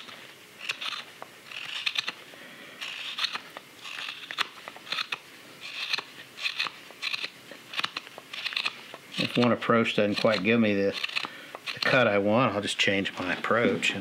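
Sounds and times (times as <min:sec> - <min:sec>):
knife slicing wood shavings: 0:00.0 - 0:02.2, 0:02.8 - 0:12.0.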